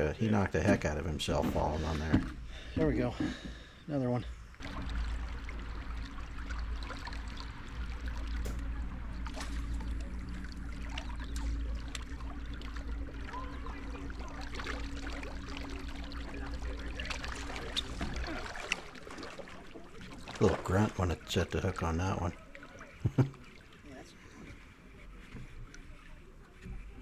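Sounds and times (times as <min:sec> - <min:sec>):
light rain falling: 0:00.0 - 0:23.4
low rumble and hum: 0:00.0 - 0:23.5.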